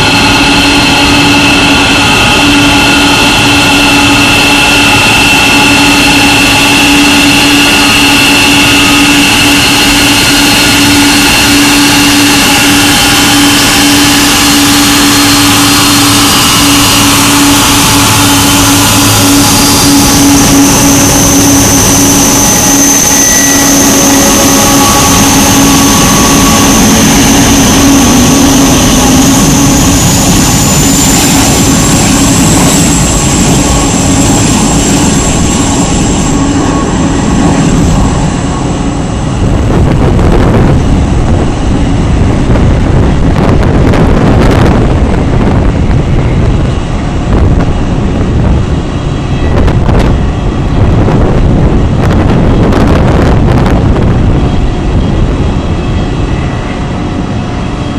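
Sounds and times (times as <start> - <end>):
jet engines whining: 0.0 - 57.9
wind buffeting microphone: 0.0 - 57.9.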